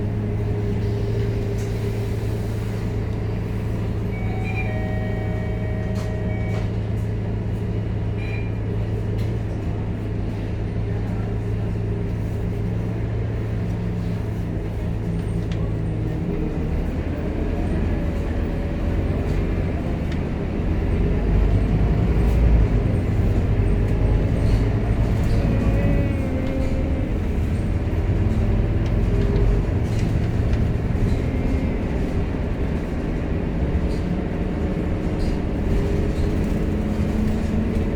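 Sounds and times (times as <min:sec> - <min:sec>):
bus diesel engine running: 0:00.0 - 0:37.9.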